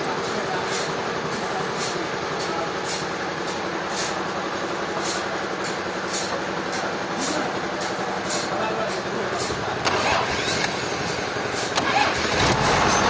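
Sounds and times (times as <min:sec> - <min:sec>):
sawmill machinery running: 0:00.0 - 0:13.0.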